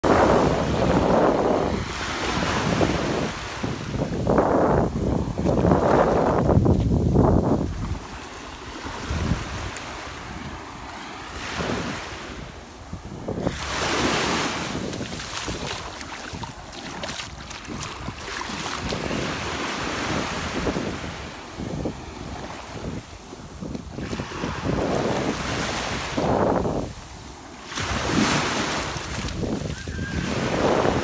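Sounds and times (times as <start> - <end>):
small waves washing up beach: 0.0 - 31.0
wind rumbling on microphone: 0.0 - 31.0.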